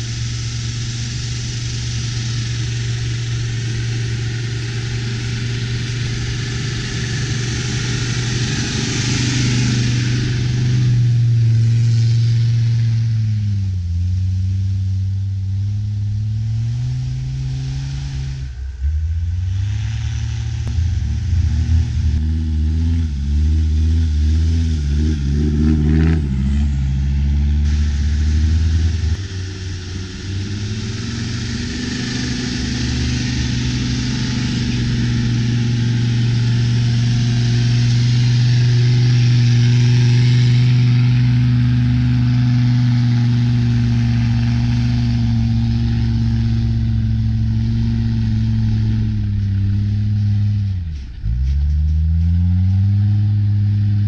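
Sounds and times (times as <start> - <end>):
tyres hissing through snow: 0.0 - 18.8, 19.4 - 54.0
off-road engine revving: 0.0 - 54.0.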